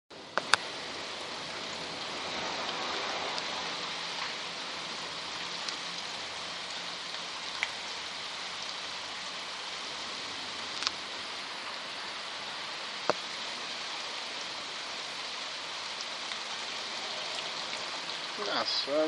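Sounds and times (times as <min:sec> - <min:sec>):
sharp ticks of raindrops: 0:00.1 - 0:19.0
steady rain: 0:00.1 - 0:19.0.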